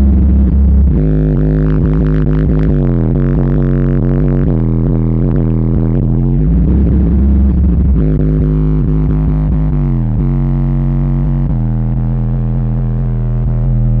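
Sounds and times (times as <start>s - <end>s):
deep bass from subwoofer: 0.0s - 14.0s.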